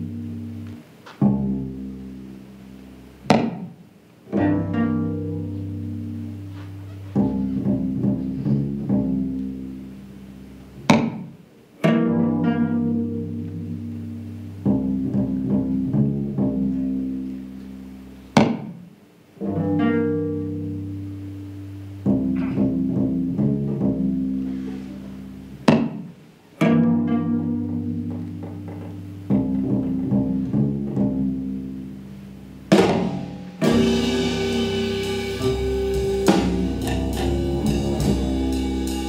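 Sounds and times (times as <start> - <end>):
low bowed and plucked strings: 4.3 - 11.1, 11.8 - 18.6, 19.4 - 25.9, 26.6 - 32.7, 33.6 - 39.0.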